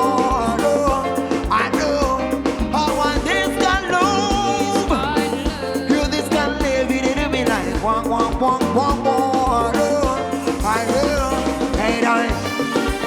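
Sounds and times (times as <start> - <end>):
kick drum and bass beat: 0.0 - 13.0
sliding melody line: 0.0 - 13.0.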